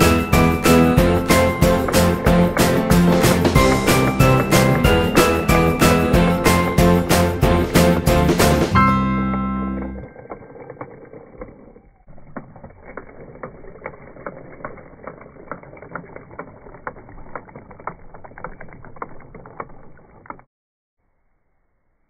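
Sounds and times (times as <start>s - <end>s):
toy boat propeller churning water: 0.0s - 20.5s.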